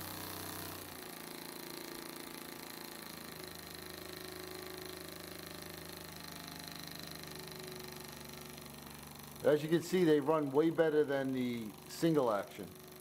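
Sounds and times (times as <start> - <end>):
small oscillating engine chattering: 0.0 - 13.0.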